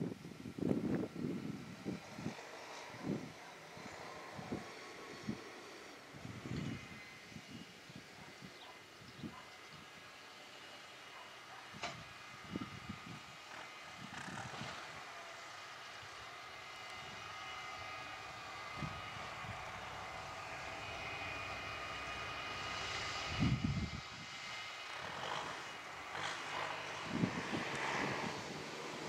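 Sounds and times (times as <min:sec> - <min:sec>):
high machinery whine: 0:00.0 - 0:29.0
tractor engine drone: 0:00.0 - 0:29.0.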